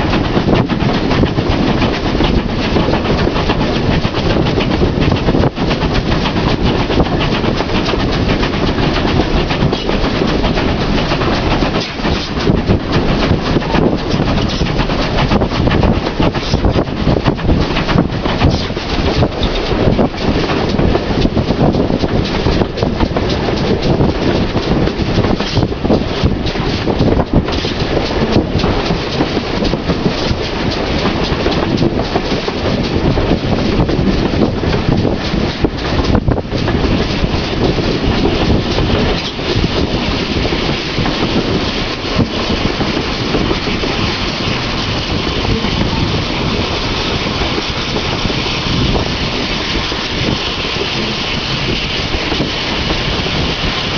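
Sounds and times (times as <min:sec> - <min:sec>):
train wheels on track: 0:00.0 - 0:53.9
wind buffeting microphone: 0:00.0 - 0:53.9.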